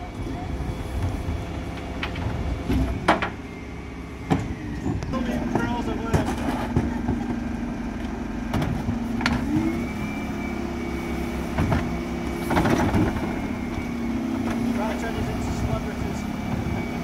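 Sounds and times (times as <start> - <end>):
hydraulic lift whine: 0.0 - 17.0
refuse truck engine idling: 0.0 - 17.0.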